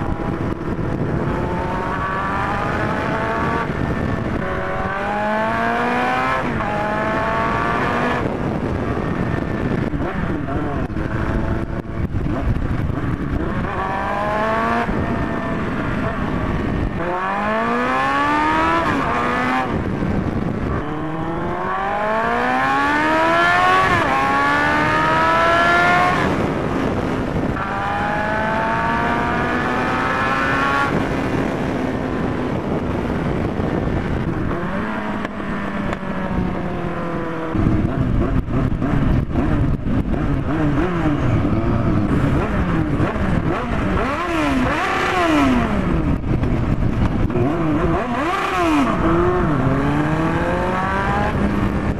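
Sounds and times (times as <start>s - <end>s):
motorcycle engine accelerating: 0.0s - 51.9s
wind noise: 0.0s - 51.9s.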